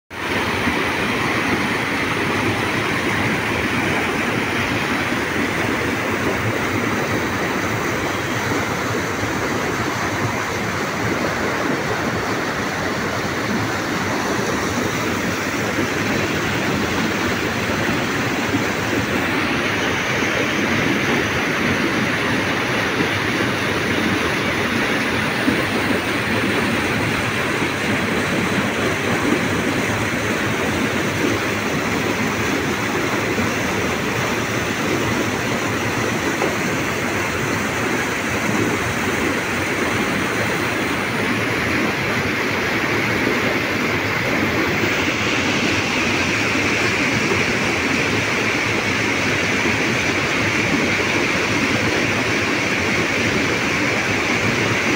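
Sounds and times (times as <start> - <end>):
river water rushing over rocks: 0.1 - 54.9.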